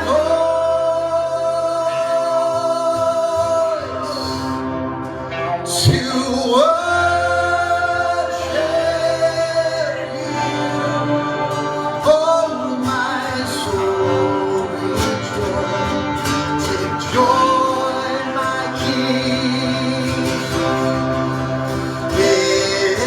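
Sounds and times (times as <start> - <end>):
guitar: 0.0 - 23.0
steady low chord: 0.0 - 23.0
worship singing: 0.0 - 23.0.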